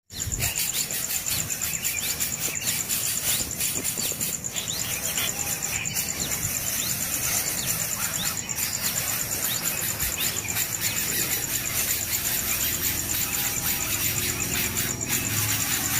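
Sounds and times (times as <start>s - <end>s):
high-pitched insect buzz: 0.1s - 15.9s
nestling birds chirping: 0.1s - 15.9s.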